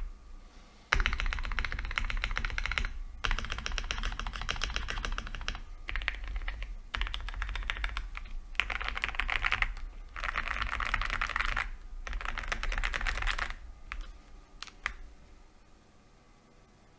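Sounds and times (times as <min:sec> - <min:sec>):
mechanical keyboard typing: 0:00.9 - 0:15.2.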